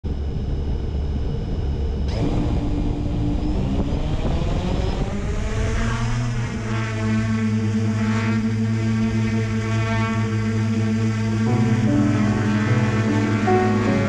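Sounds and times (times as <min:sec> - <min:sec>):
drone motors whining: 0:00.1 - 0:14.0
drone propeller rush: 0:00.1 - 0:14.0.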